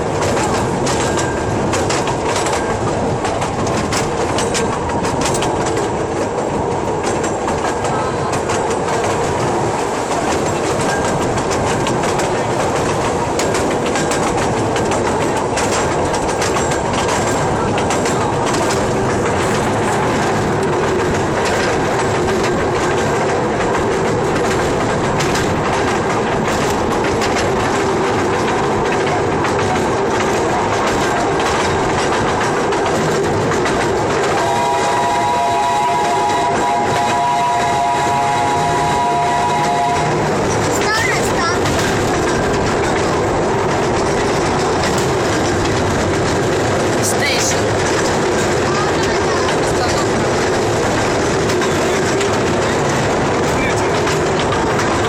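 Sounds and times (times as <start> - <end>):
train rumbling on track: 0.0 - 55.0
wheels clacking over rails: 0.0 - 55.0.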